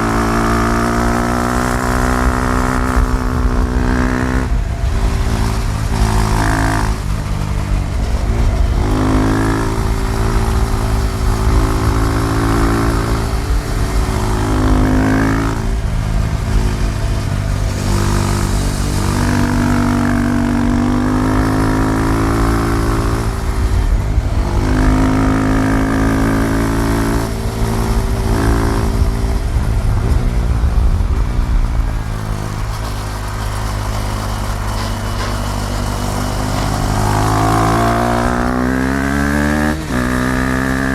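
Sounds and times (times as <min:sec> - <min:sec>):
motorcycle engine accelerating: 0:00.0 - 0:40.9
wind and road rumble: 0:00.0 - 0:40.9.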